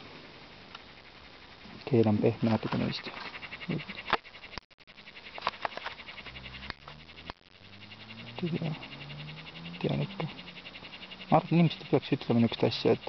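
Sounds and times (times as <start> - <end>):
crickets chirping: 0.0 - 13.0
low hum: 0.0 - 13.0.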